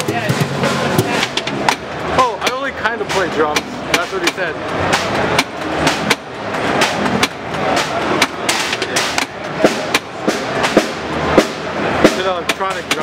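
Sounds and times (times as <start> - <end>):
drums struck in irregular hits: 0.0 - 13.0
steady background din: 0.0 - 13.0.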